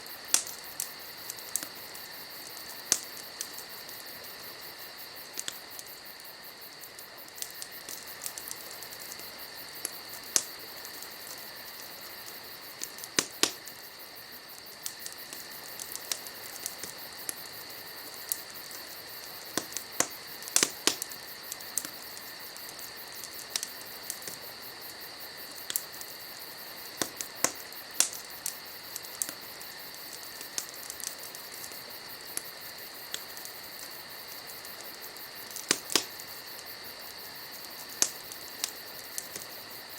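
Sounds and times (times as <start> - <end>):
campfire crackling: 0.0 - 39.9
night insects chorus: 0.0 - 39.9.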